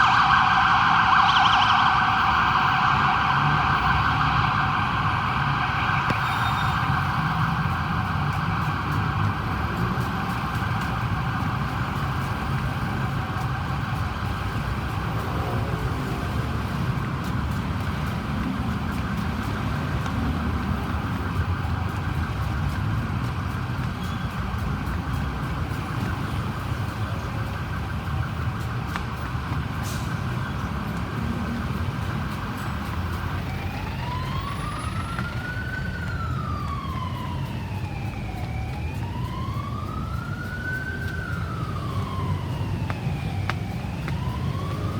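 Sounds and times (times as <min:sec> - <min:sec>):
ambulance siren: 0:00.0 - 0:44.9
road rumble: 0:00.0 - 0:44.9
vehicle engine: 0:00.0 - 0:44.9.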